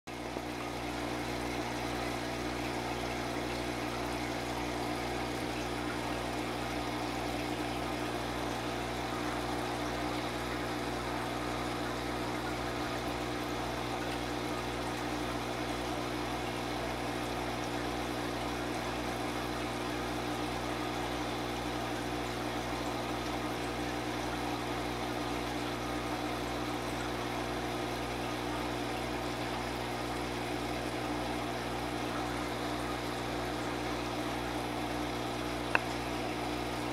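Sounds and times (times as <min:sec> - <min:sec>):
aquarium air pump humming: 0:00.1 - 0:36.9.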